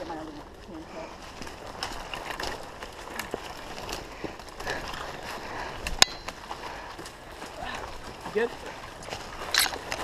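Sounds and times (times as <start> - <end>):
footsteps crunching on rough ground: 0.0 - 10.0.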